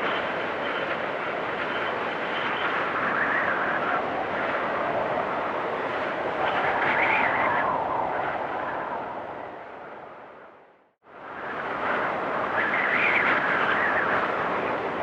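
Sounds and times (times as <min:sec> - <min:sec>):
storm wind whistling: 0:00.0 - 0:15.0.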